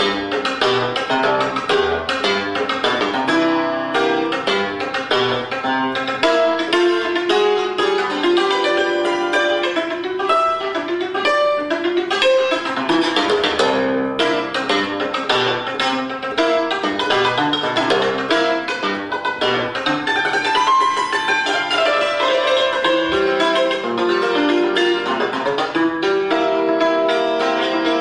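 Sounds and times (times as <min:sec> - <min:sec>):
cimbalom played with hammers: 0:00.0 - 0:28.0.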